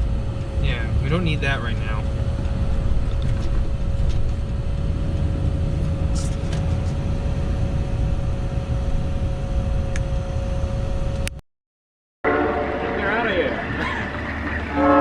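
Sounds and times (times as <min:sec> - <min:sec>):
thin steady whine: 0:00.0 - 0:11.3, 0:12.3 - 0:15.0
car engine and road noise: 0:00.0 - 0:11.4, 0:12.3 - 0:15.0.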